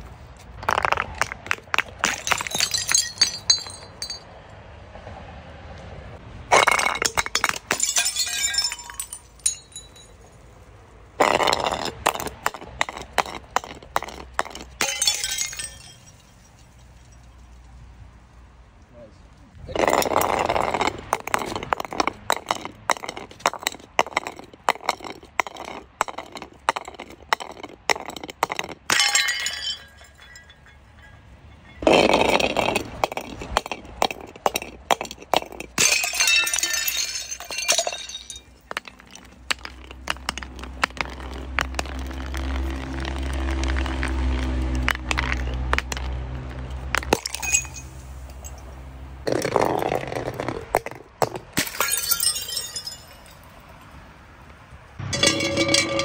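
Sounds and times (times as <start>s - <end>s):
glass bottles breaking: 0.6s - 4.3s, 6.5s - 10.2s, 11.2s - 17.3s, 19.7s - 48.7s, 50.7s - 53.5s, 55.0s - 56.0s.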